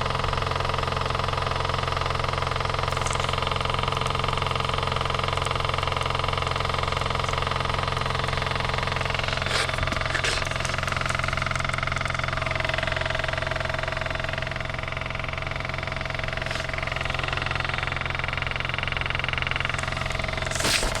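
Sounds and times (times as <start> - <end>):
car engine idling: 2.6 - 21.0.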